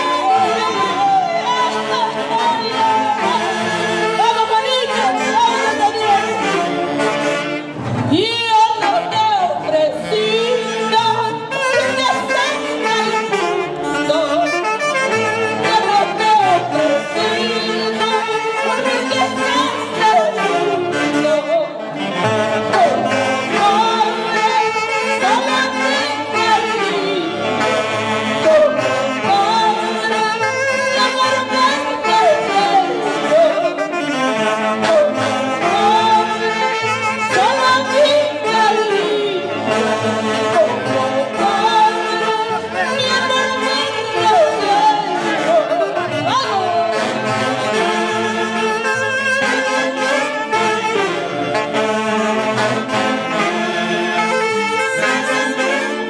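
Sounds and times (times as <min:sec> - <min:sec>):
woman singing into a microphone: 0:00.0 - 0:51.6
band with saxophones: 0:00.0 - 0:56.0.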